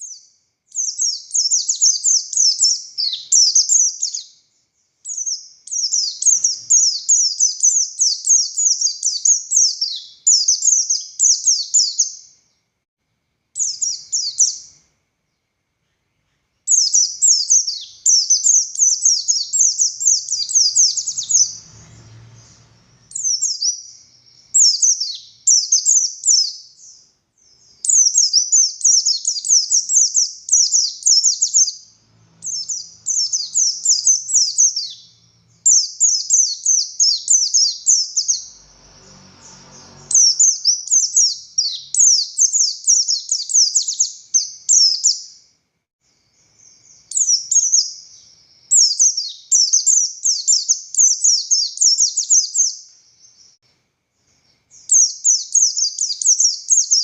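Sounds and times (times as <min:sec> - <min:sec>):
bird twittering song: 0:00.0 - 0:12.6, 0:13.6 - 0:53.6, 0:54.2 - 0:57.0.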